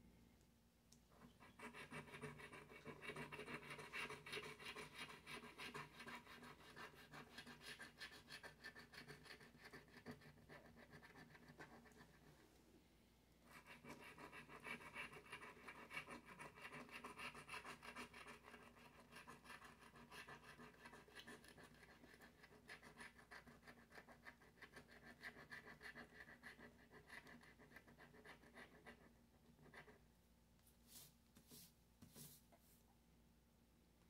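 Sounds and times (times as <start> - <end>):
scratching lottery ticket: 1.2 - 12.3, 13.5 - 30.0.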